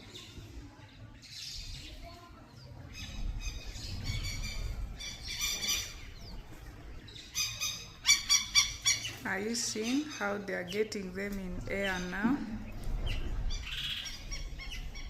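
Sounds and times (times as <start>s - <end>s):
faint scattered bird calls: 0.0s - 15.0s.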